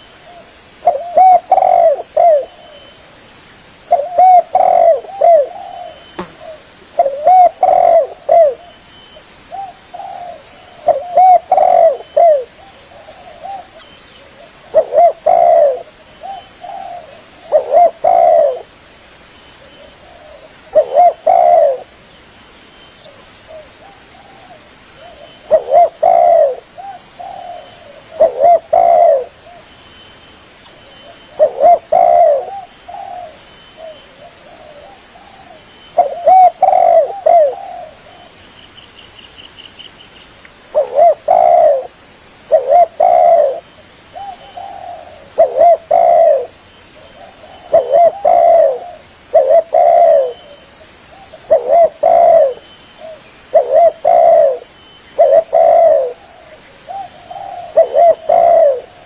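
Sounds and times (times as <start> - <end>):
dove cooing: 0.0 - 3.0, 3.9 - 8.8, 9.5 - 18.8, 19.6 - 22.0, 23.1 - 29.7, 30.9 - 38.4, 40.7 - 59.0.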